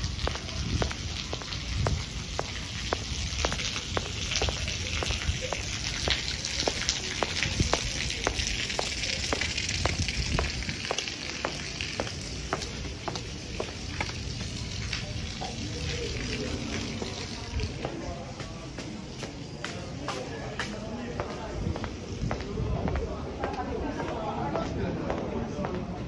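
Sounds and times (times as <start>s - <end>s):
light rain hissing: 0.0s - 24.2s
footsteps on wet paving: 0.0s - 26.0s.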